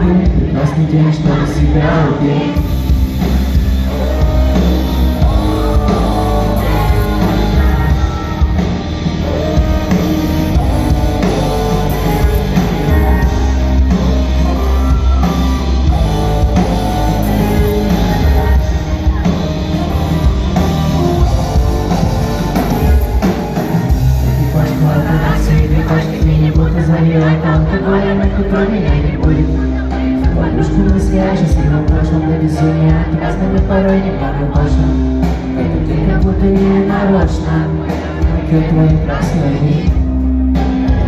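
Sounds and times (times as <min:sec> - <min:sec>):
electric guitar: 0:00.0 - 0:41.0
live rock band playing: 0:00.0 - 0:41.0.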